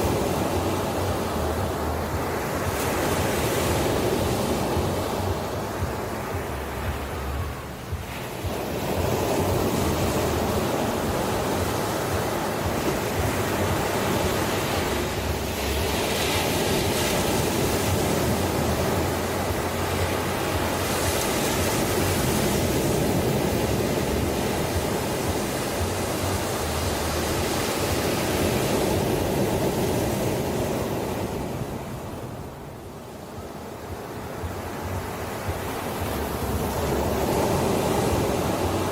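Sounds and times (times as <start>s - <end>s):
ocean waves washing on shore: 0.0s - 38.9s.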